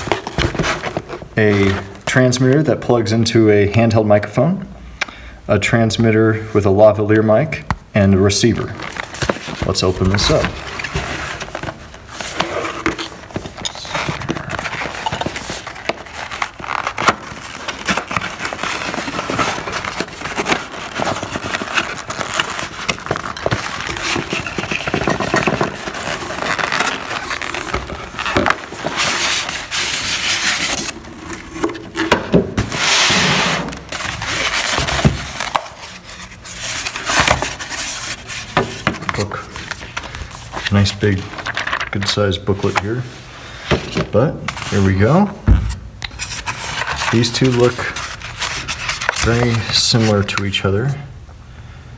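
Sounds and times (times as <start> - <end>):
packaging scraping and rustling: 0.0 - 2.6, 8.4 - 51.0.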